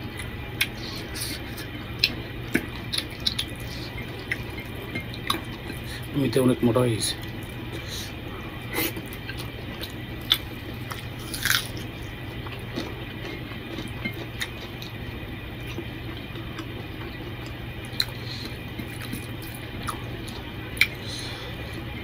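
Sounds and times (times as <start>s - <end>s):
man chewing with wet mouth sounds: 0.0s - 6.1s, 7.2s - 22.0s
steady low hum: 0.0s - 22.0s.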